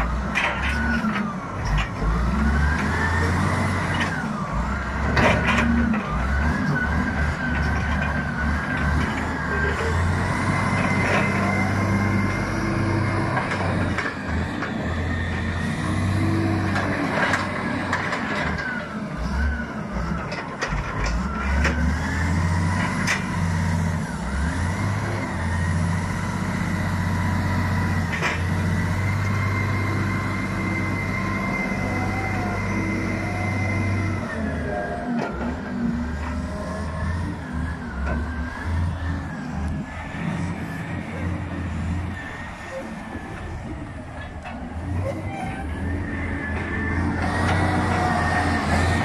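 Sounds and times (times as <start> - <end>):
diesel engine working under load: 0.0 - 49.0.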